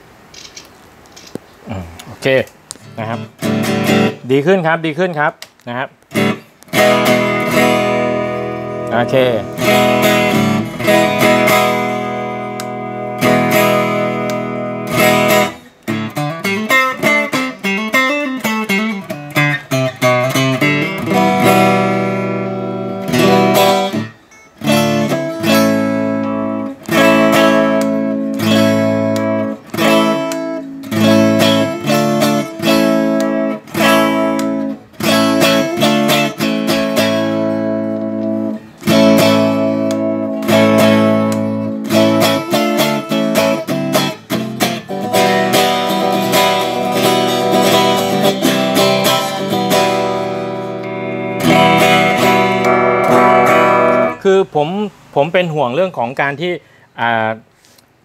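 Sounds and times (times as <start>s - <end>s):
electric guitar strummed chords: 2.8s - 4.9s, 6.0s - 54.3s.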